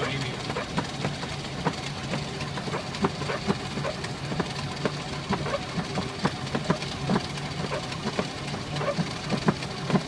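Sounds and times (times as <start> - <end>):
jet engines idling hum: 0.0 - 10.0.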